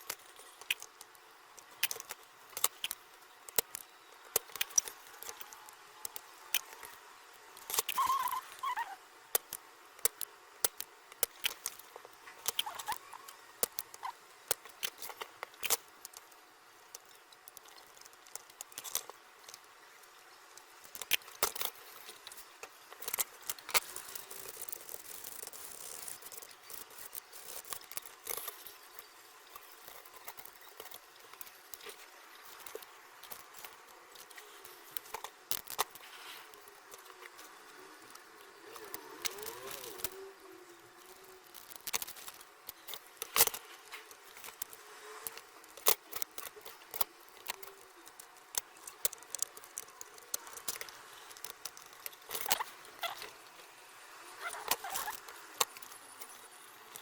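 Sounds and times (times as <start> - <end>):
small tools clicking and tapping: 0.0 - 40.2, 40.9 - 53.6, 54.4 - 57.0
faint steady hiss: 0.0 - 57.0.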